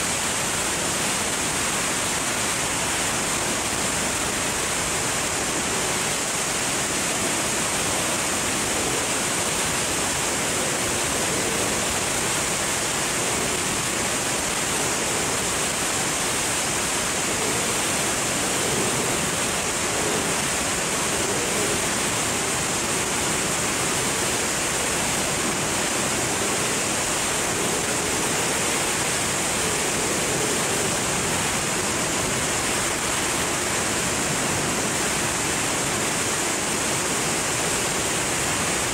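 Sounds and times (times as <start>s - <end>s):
wind rushing over microphone: 0.1s - 38.9s.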